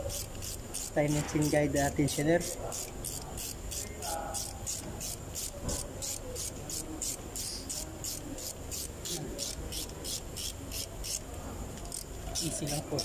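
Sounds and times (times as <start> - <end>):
ratchet wrench clicking: 0.0 - 13.0.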